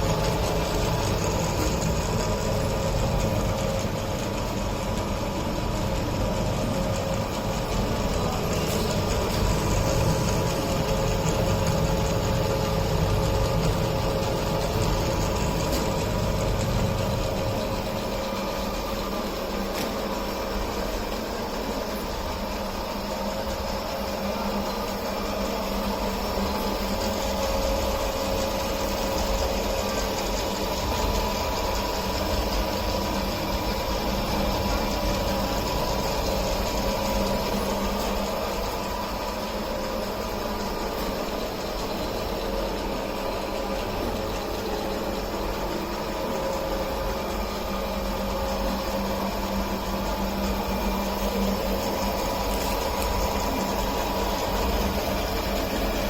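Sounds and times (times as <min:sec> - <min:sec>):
drilling machine motor hum: 0:00.0 - 0:56.0.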